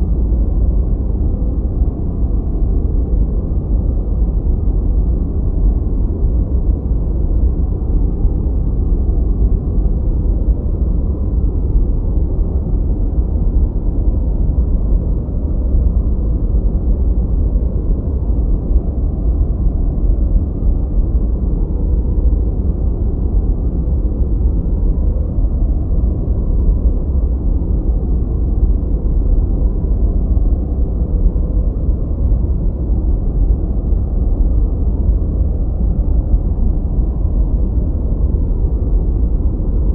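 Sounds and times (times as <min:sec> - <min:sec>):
deep steady noise: 0:00.0 - 0:39.9.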